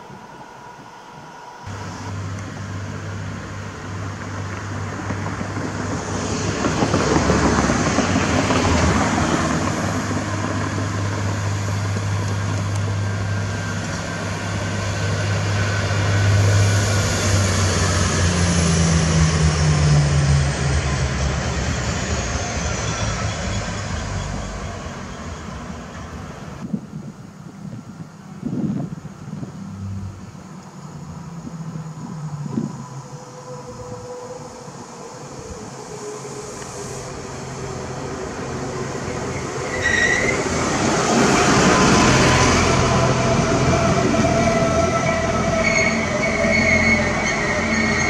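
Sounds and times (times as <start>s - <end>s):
wheels rushing on rails: 0.0s - 27.2s, 27.8s - 48.0s
electric train hum: 0.0s - 48.0s.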